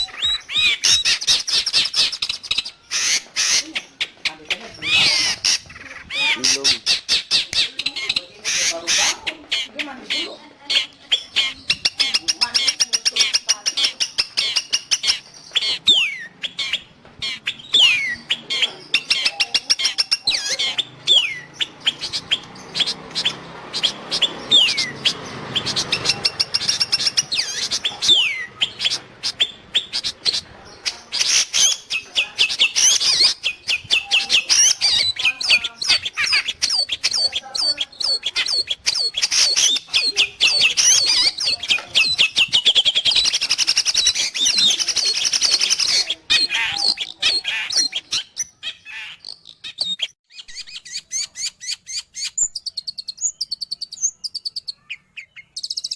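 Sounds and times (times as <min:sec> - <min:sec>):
shrike chattering song: 0:00.0 - 0:55.9.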